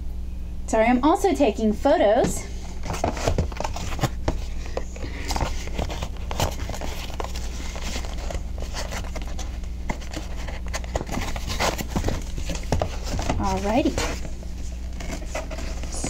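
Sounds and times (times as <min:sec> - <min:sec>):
steady low hum: 0:00.0 - 0:16.0
cardboard box scraping and crinkling: 0:02.8 - 0:16.0.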